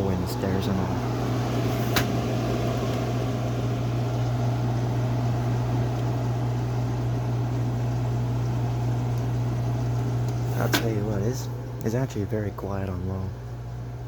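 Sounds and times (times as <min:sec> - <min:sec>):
air conditioner fan rushing: 0:00.0 - 0:14.0
low hum: 0:00.0 - 0:14.0.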